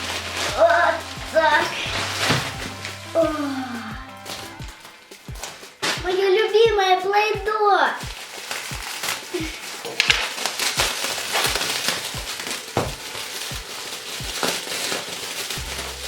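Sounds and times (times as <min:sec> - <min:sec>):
background music with low beat: 0:00.0 - 0:14.5, 0:15.5 - 0:16.0
packaging crinkling: 0:00.0 - 0:16.0.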